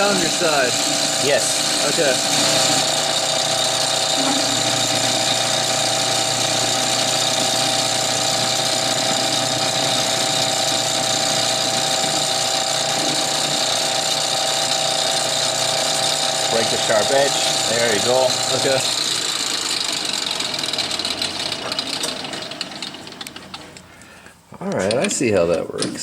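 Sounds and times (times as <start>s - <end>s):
metalworking machine whining: 0.0s - 23.8s.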